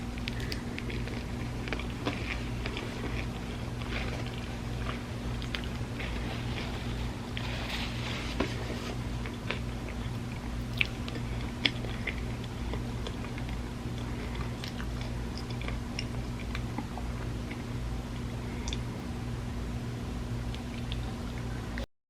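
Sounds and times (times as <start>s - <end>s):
chewing and biting food: 0.0s - 19.0s.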